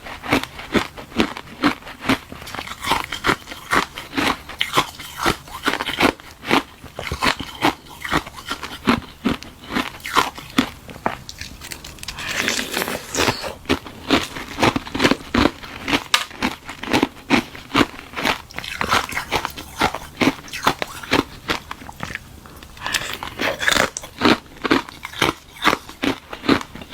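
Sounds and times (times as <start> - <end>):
chewing crunchy ice: 0.0 - 26.9.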